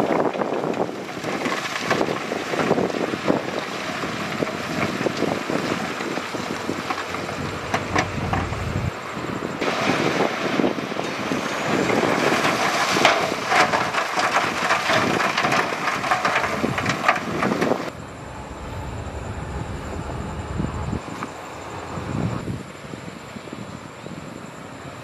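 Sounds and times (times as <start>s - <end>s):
diesel engine running: 2.6s - 23.5s.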